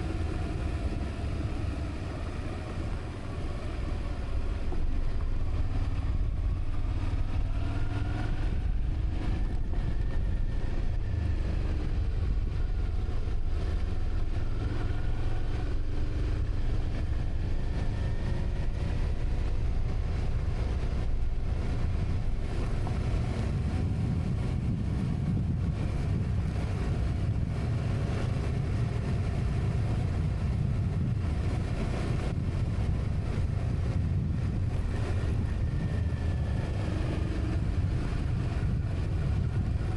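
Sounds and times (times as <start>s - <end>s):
vehicle engine running: 0.0s - 39.9s
wind noise: 0.0s - 39.9s.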